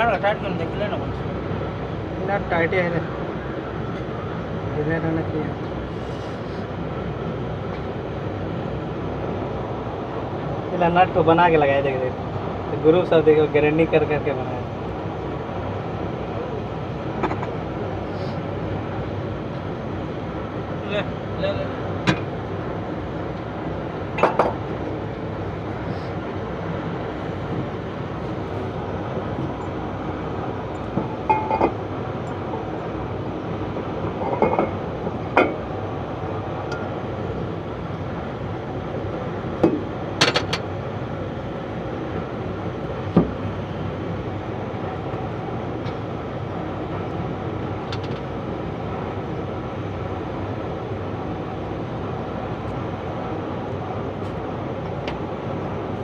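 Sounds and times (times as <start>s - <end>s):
steady mechanical drone: 0.0s - 56.0s.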